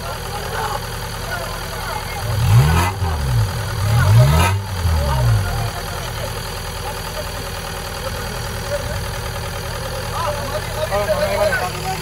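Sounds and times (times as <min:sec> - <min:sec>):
engine revving and idling: 0:00.0 - 0:12.0.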